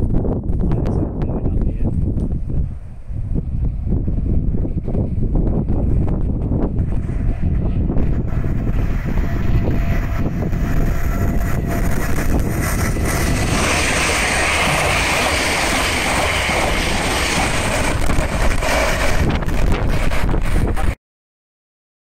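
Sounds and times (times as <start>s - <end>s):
wind buffeting microphone: 0.0s - 21.0s
train wheels rushing on rails: 0.6s - 21.0s.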